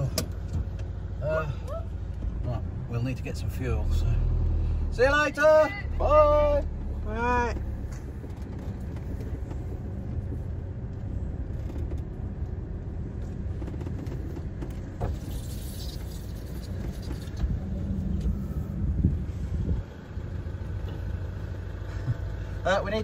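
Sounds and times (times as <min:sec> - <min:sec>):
engine low rumble: 0:00.0 - 0:23.0.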